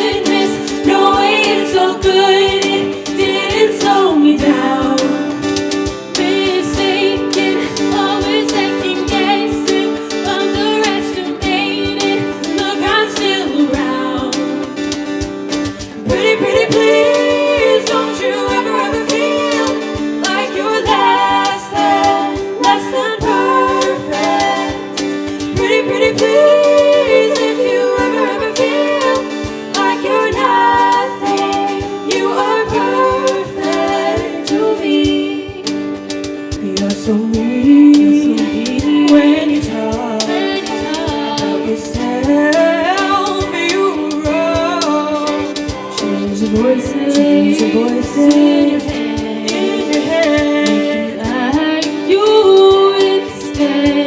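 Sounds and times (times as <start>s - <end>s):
choir singing in harmony: 0.0s - 54.0s
guitar: 0.0s - 54.0s.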